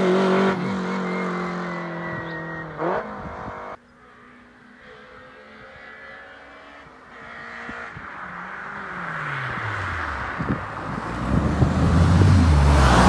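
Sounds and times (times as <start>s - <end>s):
race car engine approaching: 0.0s - 13.0s.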